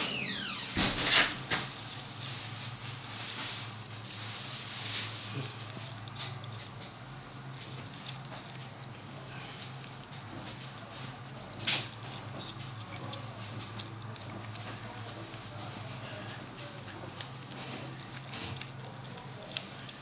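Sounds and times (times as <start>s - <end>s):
hedgehog chewing and smacking: 1.5s - 20.0s.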